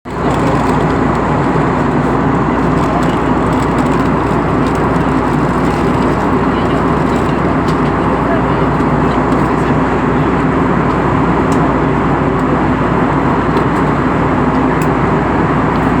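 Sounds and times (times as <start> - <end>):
airplane cabin engine noise: 0.0 - 16.0.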